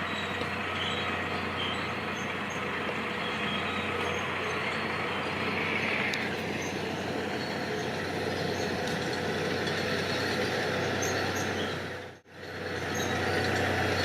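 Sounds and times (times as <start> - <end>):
diesel machinery running: 0.0 - 14.0.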